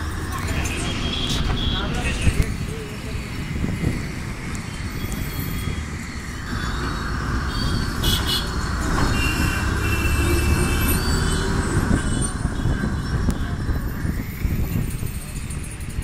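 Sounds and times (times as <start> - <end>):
bus engine and road rumble: 0.0 - 16.0
high squeals: 0.0 - 16.0.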